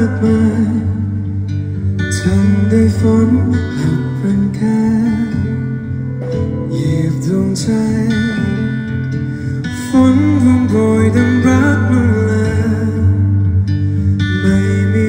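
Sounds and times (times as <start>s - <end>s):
man singing: 0.0s - 1.4s, 2.0s - 13.6s, 14.2s - 15.0s
guitar-led band: 0.0s - 15.0s.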